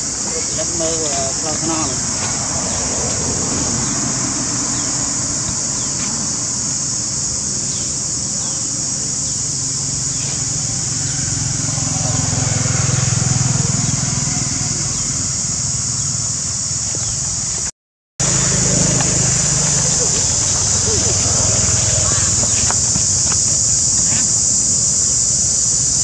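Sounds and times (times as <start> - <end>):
motor vehicle humming: 0.0 - 17.6, 18.2 - 25.7
insects droning in trees: 0.0 - 26.0.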